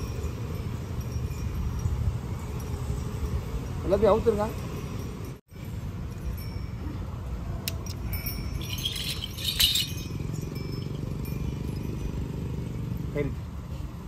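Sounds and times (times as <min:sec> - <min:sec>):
small metal bells jingling: 0:00.0 - 0:13.1.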